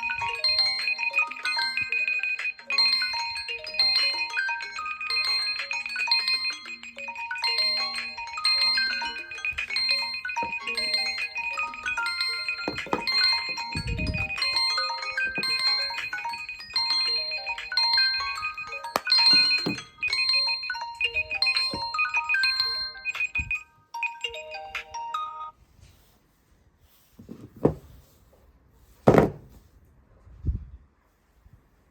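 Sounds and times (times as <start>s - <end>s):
overlapping phone ringtones: 0.0s - 25.6s.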